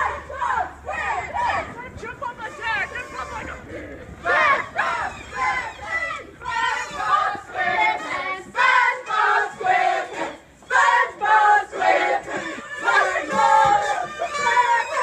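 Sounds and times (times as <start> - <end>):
girls chanting: 0.0 - 1.7, 3.7 - 15.0.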